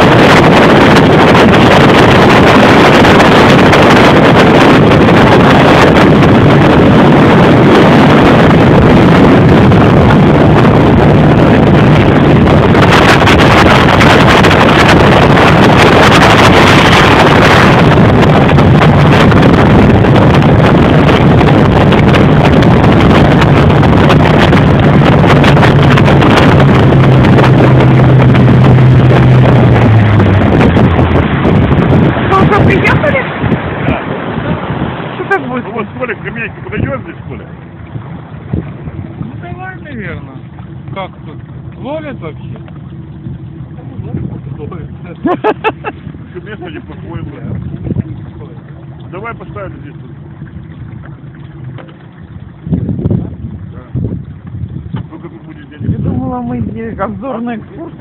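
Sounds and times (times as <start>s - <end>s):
engine running at speed: 0.0s - 58.0s
wind rushing over microphone: 0.0s - 58.0s.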